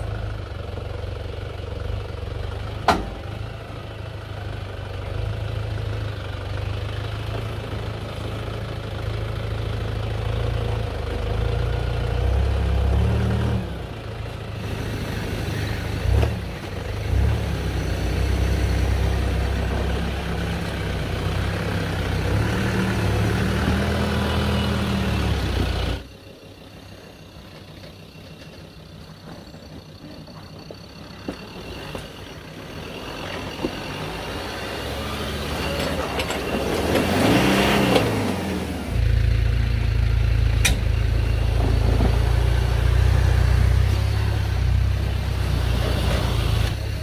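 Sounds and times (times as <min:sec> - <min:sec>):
off-road vehicle engines: 0:00.0 - 0:47.0.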